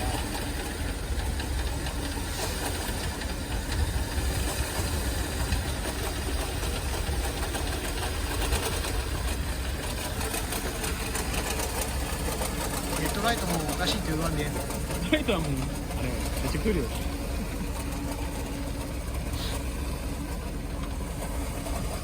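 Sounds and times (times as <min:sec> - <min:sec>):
car engine running: 0:00.0 - 0:22.0
fast rattling tick: 0:00.0 - 0:22.0.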